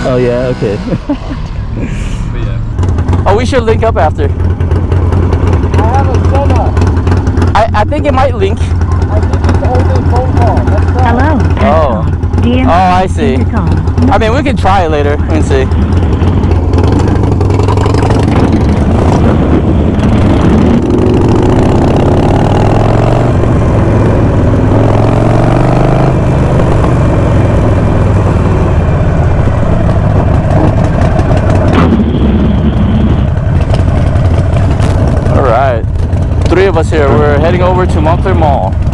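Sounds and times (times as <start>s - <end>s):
motorcycle engines running loudly: 0.0s - 38.9s.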